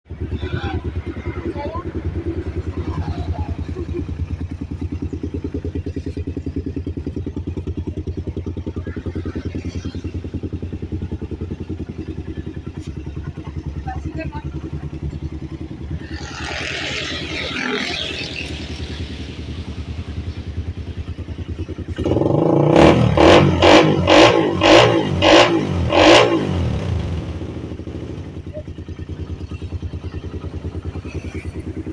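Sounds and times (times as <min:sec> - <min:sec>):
engine revving with throttle blips: 0:00.1 - 0:31.9
motorcycle engine idling: 0:00.1 - 0:31.9.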